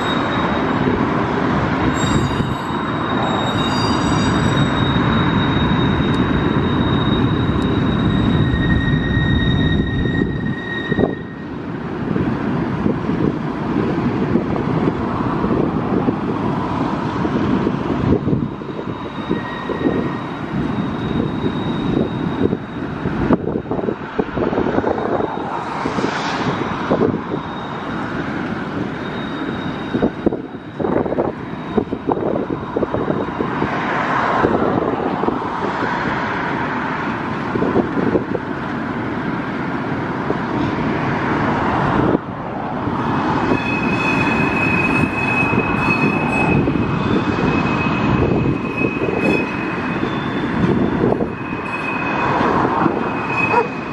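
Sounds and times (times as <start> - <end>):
high squeal from train wheels: 0.0 - 11.8, 15.2 - 38.4, 40.7 - 53.9
freight train rumbling on bridge: 0.0 - 53.9.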